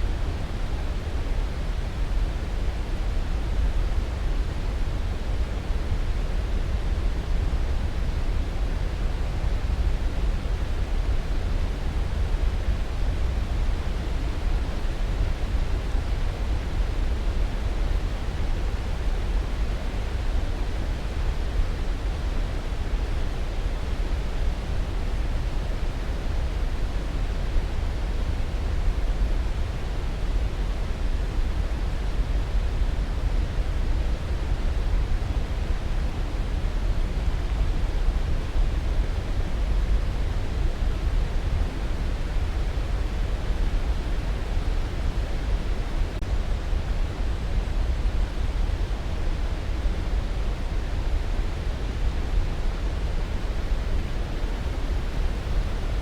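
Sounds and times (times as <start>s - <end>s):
steady pink noise: 0.0s - 56.0s.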